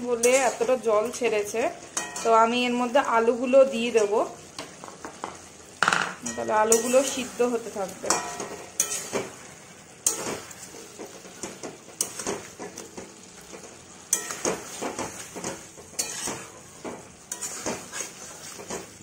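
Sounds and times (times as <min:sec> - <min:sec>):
utensil scraping in a pan: 0:00.0 - 0:03.4, 0:04.6 - 0:19.0
faint sizzle: 0:00.0 - 0:19.0.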